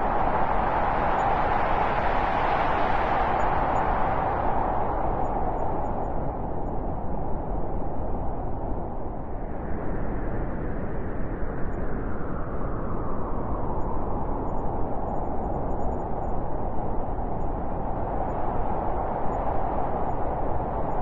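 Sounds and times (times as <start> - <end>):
blizzard wind blowing: 0.0 - 21.0.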